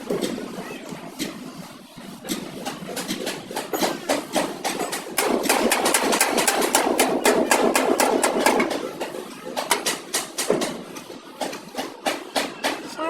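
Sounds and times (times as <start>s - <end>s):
rapid irregular knocking: 0.0s - 13.0s.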